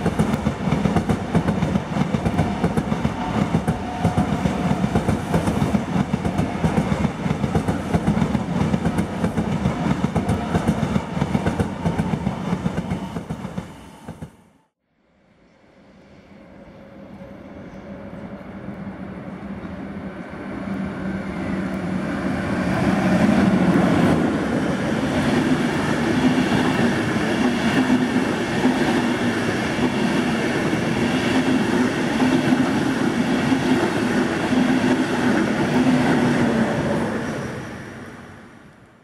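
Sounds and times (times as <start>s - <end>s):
passenger train passing: 0.0s - 39.0s.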